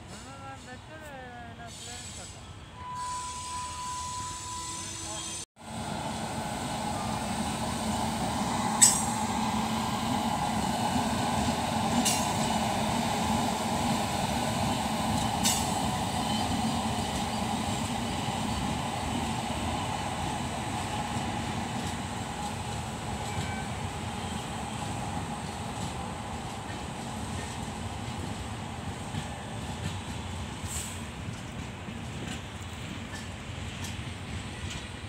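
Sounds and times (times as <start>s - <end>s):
train wheels rumbling on rail: 4.9s - 35.0s.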